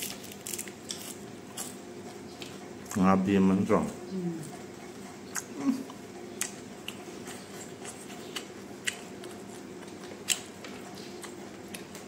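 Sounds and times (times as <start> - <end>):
man chewing food: 0.0 - 3.0, 3.8 - 12.0.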